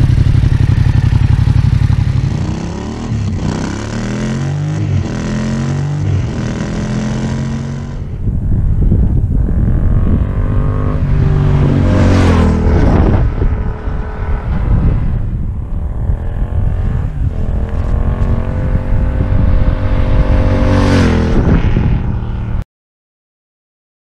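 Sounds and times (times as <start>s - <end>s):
motorcycle accelerating past: 0.0s - 8.2s, 9.4s - 22.6s.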